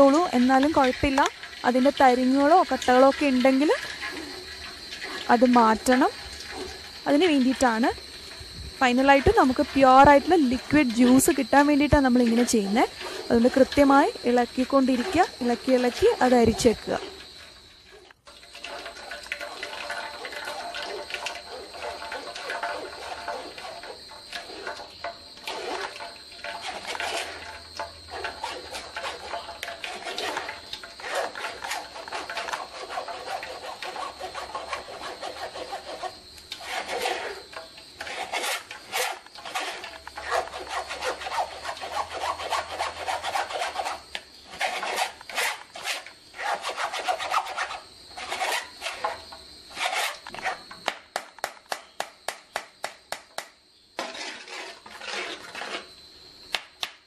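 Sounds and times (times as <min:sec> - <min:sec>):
spoon scraping a plastic sieve: 0:00.1 - 0:50.8, 0:54.0 - 0:56.0.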